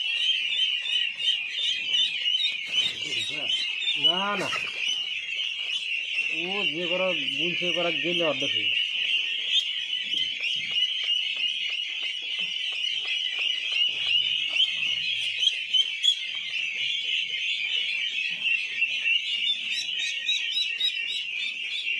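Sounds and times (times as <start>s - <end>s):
ducklings peeping: 0.0s - 21.9s.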